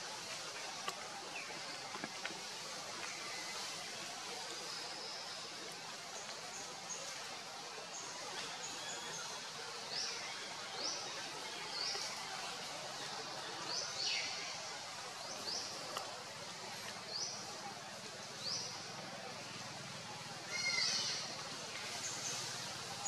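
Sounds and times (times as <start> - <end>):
forest ambience hiss: 0.0 - 23.0.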